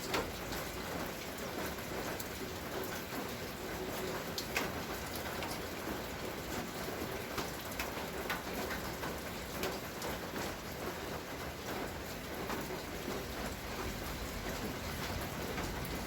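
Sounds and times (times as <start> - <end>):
rain falling: 0.0 - 16.0
raindrops ticking: 0.0 - 16.0.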